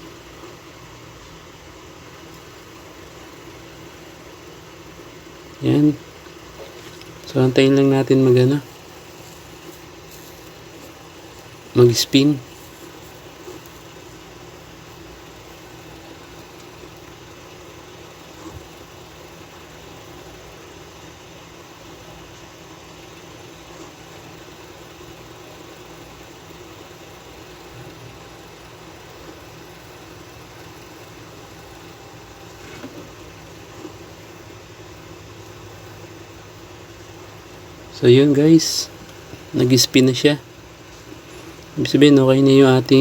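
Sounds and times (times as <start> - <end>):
washing machine motor hum: 0.0 - 43.0.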